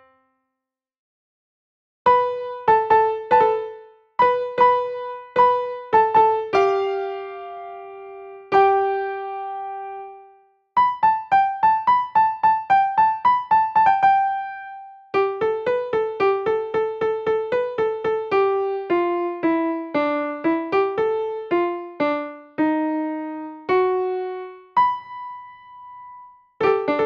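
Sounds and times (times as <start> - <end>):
slow piano-like keyboard melody: 0.0 - 0.2, 2.1 - 27.0.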